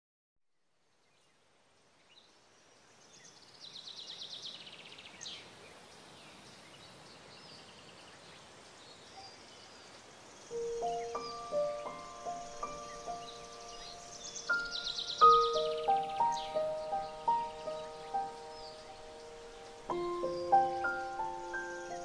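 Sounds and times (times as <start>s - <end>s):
steady low hiss: 0.6s - 22.0s
songbird trills: 3.1s - 22.0s.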